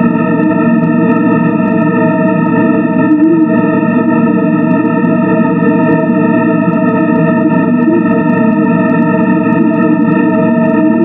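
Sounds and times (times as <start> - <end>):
dense low hum: 0.0 - 11.0
organ-like drone: 0.0 - 11.0.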